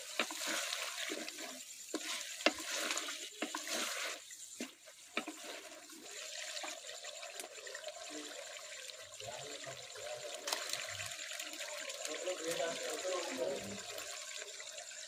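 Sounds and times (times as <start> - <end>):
curry sizzling and bubbling: 0.0 - 15.0.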